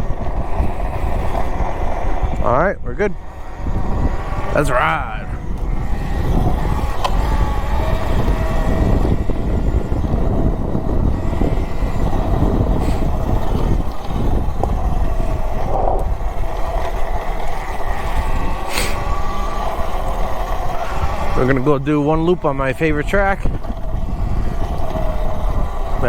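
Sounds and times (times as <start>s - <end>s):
electric motor whining: 0.0s - 26.0s
wind rumble on microphone: 0.0s - 26.0s
tyre noise: 3.3s - 26.0s.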